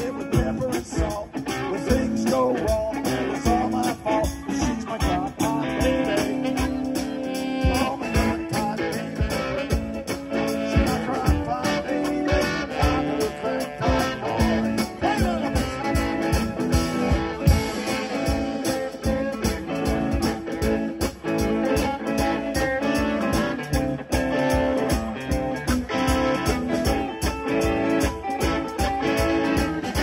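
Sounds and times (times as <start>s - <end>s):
bass: 0.0s - 30.0s
drums keeping a steady beat: 0.0s - 30.0s
electric guitars: 0.0s - 30.0s.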